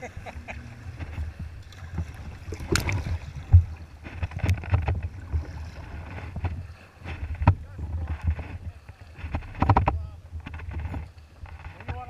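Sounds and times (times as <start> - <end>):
water splashing against kayak hull: 0.0 - 12.0
wind rumble on microphone: 0.0 - 12.0.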